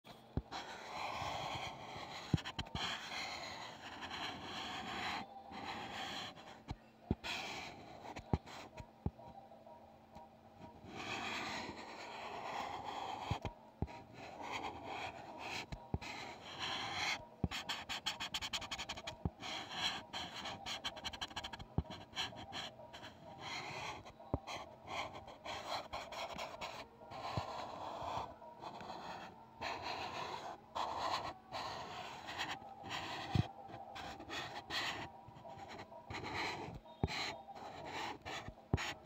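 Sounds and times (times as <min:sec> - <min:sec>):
pencil scratching on paper: 0:00.4 - 0:08.8, 0:10.6 - 0:39.0.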